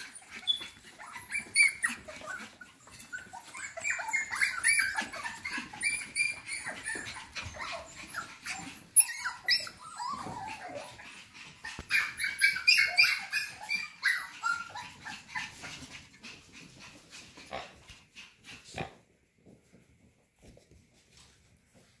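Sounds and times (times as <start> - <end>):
puppies yipping and whining: 0.0 - 18.5.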